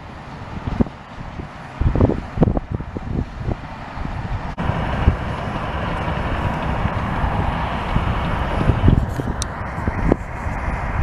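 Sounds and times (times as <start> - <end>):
bulldozer diesel engine running: 0.0 - 11.0
bulldozer tracks pushing clay: 0.0 - 11.0.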